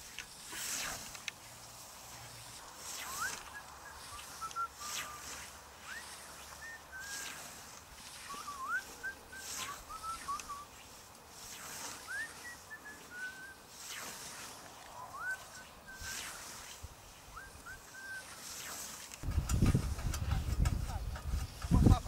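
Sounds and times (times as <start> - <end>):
scythe swishing through grass: 0.0 - 22.0.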